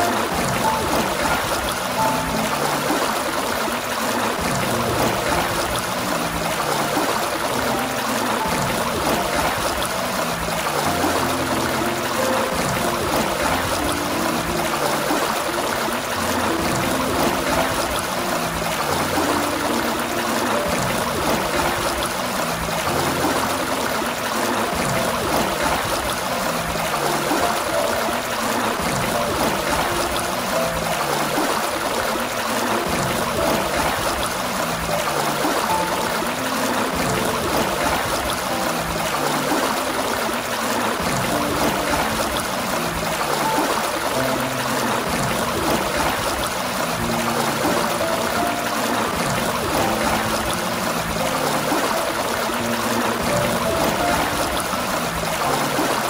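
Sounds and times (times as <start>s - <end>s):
fountain water splashing: 0.0s - 56.0s
soft low musical notes: 0.0s - 56.0s.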